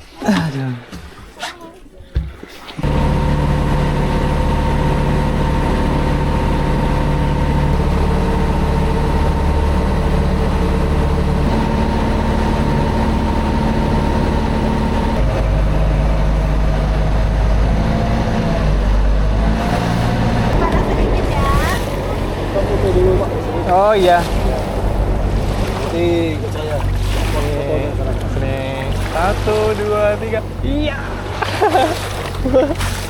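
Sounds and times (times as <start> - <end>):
boat engine running: 2.8 - 33.0.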